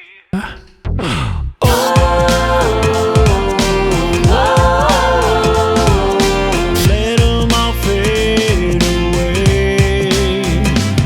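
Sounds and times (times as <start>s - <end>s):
worship song with full band: 1.7s - 11.0s.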